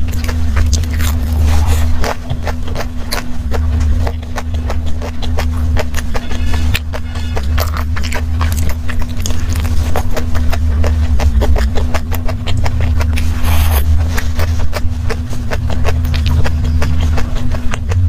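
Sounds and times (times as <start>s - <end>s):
crunchy chewing: 0.0s - 18.0s
steady low hum: 0.0s - 18.0s.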